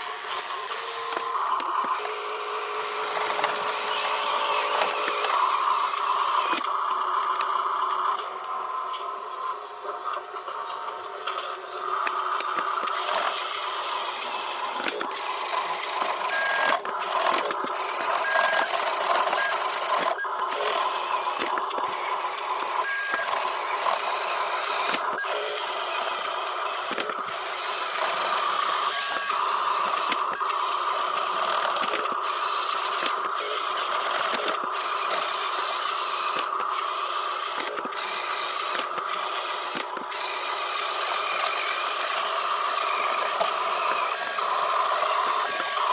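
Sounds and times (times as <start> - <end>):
small electric motors whirring: 0.0 - 45.9.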